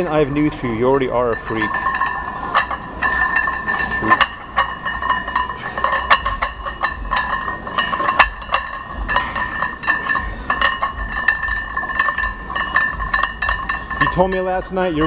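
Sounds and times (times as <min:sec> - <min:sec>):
gym weights clinking: 0:00.0 - 0:15.0
steady high-pitched tone: 0:00.0 - 0:15.0.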